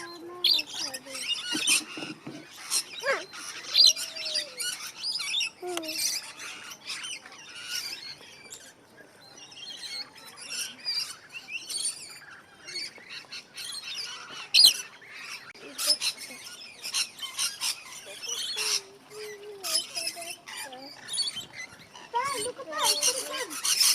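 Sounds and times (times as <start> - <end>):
birds chirping and squawking: 0.0 - 23.9.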